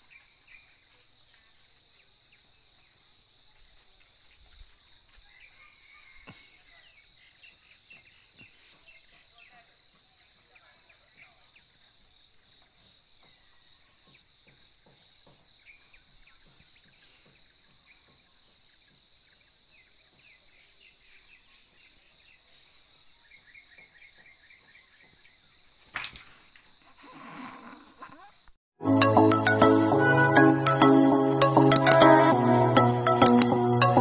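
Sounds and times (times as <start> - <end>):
high-pitched insect chorus: 0.0 - 28.5.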